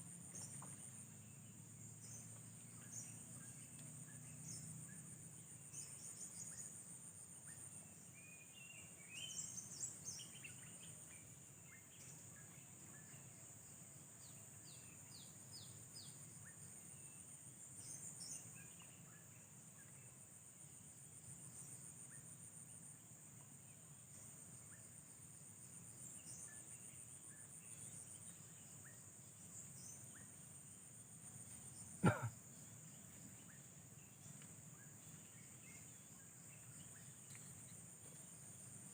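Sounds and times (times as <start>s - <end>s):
insects and crickets chorus: 0.0s - 38.9s.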